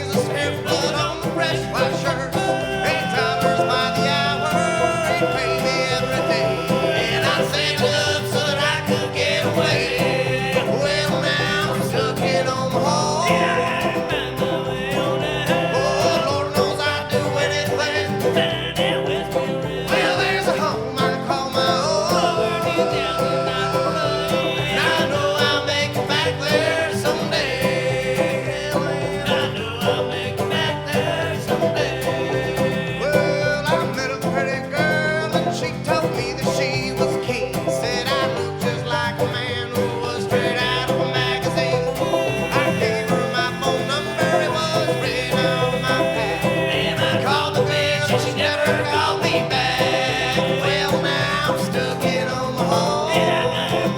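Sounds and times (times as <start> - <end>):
acoustic bluegrass band playing: 0.0 - 53.9.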